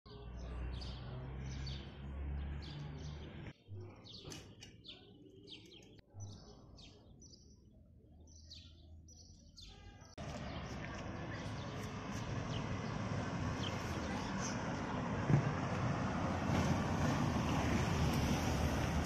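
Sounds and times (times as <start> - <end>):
small birds chirping: 0.1 - 16.6.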